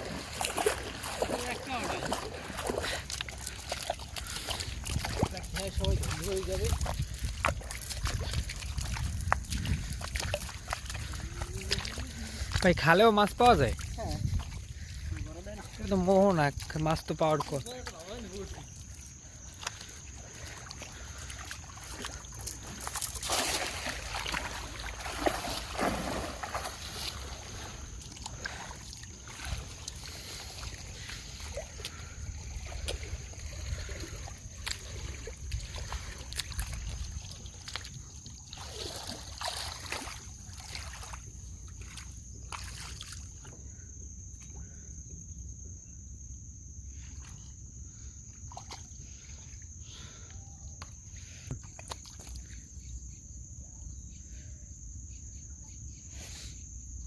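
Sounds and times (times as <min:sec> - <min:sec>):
water sloshing around boat: 0:00.0 - 0:46.2, 0:46.8 - 0:54.3.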